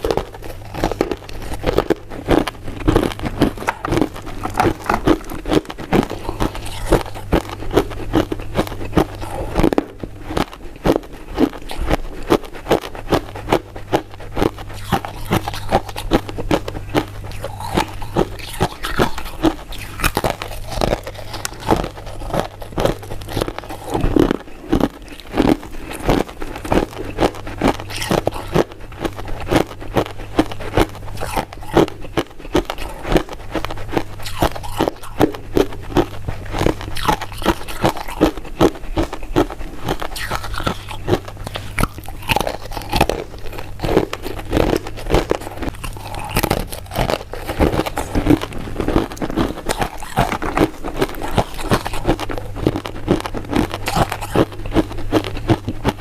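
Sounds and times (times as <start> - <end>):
chewing candies: 0.0 - 56.0.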